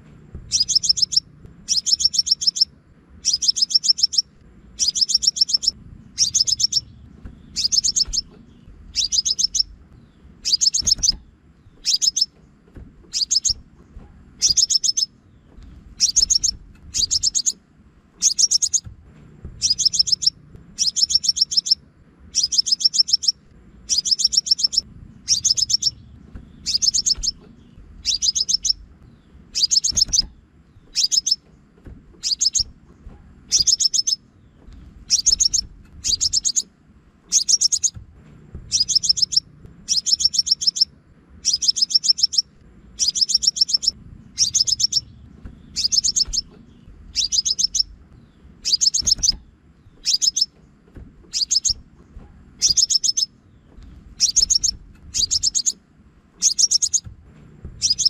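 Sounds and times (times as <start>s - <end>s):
bird chipping calls: 0.5s - 12.4s, 13.0s - 13.6s, 14.4s - 17.6s, 18.2s - 18.9s, 19.6s - 31.5s, 32.2s - 32.8s, 33.5s - 38.0s, 38.7s - 50.6s, 51.3s - 51.8s, 52.6s - 55.8s, 56.4s - 57.1s, 57.8s - 58.0s.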